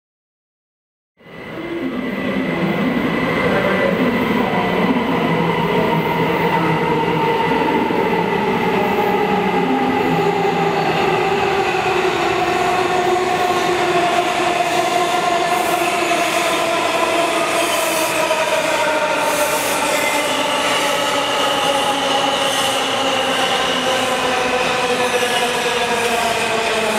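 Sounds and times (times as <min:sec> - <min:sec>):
subway train rumble and motor whine: 0:01.2 - 0:26.9.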